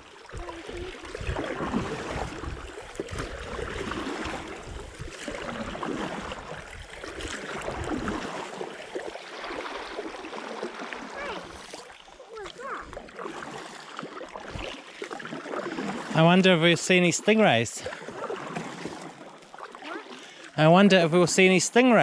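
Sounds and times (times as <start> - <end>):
water swishing against paddleboard: 0.0 - 22.0.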